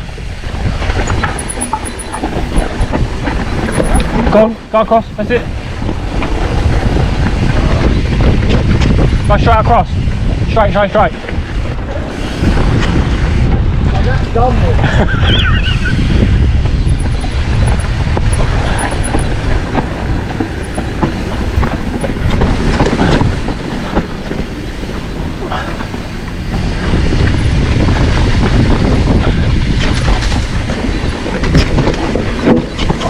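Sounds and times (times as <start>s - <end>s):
bike rattling over bumps: 0.0s - 33.0s
tyre and wind rumble: 0.0s - 33.0s.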